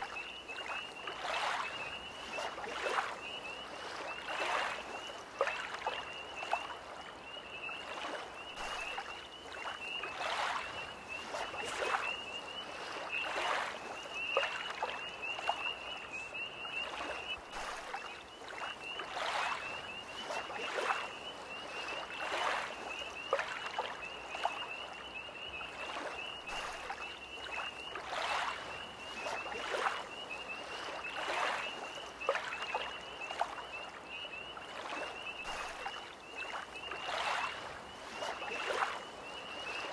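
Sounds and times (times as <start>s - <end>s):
lake waves lapping: 0.0s - 39.9s.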